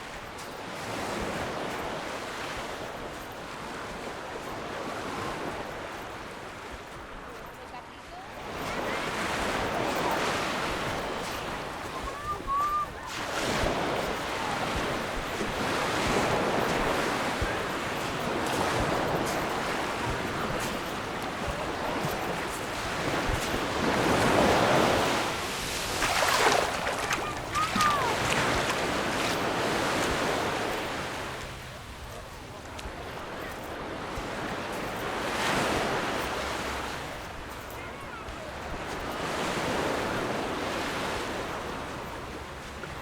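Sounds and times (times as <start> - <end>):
sea waves breaking on beach: 0.0 - 43.0.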